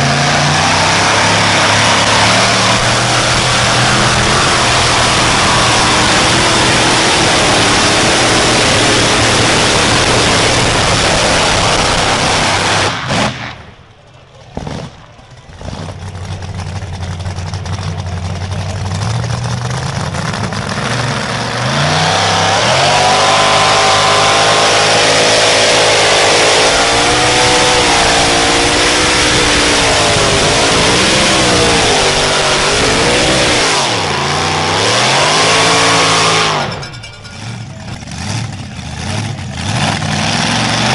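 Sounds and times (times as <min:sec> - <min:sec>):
engine revving: 0:00.0 - 0:13.8, 0:14.5 - 0:40.9
vehicle engine running loud: 0:00.0 - 0:40.9.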